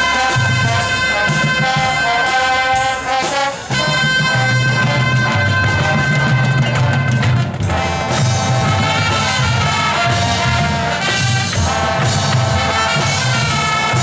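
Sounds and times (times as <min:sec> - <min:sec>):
brass chords: 0:00.0 - 0:14.0
marching drums: 0:00.0 - 0:14.0.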